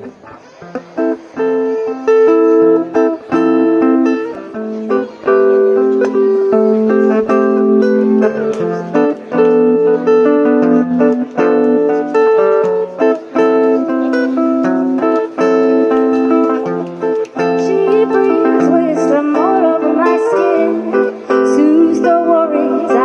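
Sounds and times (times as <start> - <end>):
guitar plucked notes and chords: 0.0 - 23.0.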